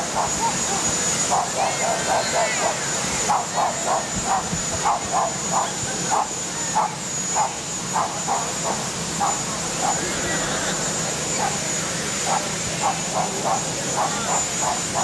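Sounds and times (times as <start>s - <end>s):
helicopter turbine whine: 0.0s - 15.0s.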